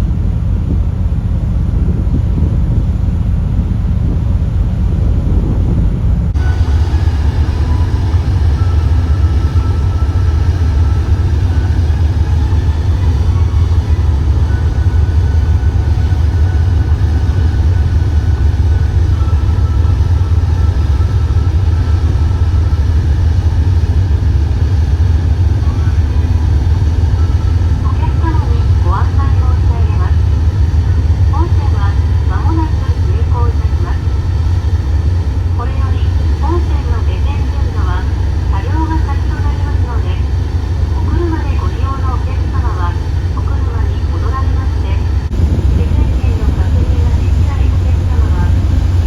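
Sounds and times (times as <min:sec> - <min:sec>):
faint high hum: 0:00.0 - 0:49.0
ship engine drone: 0:00.0 - 0:49.0.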